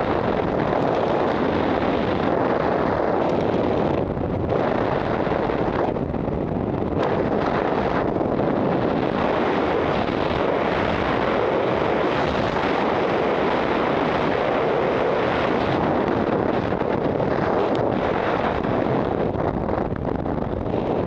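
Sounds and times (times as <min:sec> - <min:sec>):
wind roaring over microphone: 0:00.0 - 0:21.0.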